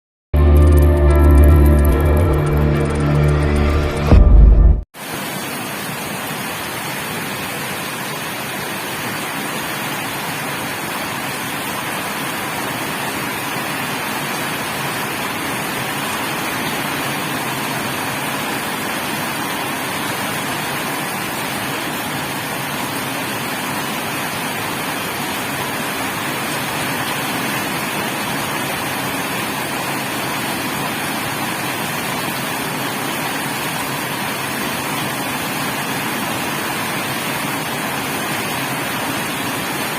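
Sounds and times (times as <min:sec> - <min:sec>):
steady rain: 0:05.0 - 0:39.9.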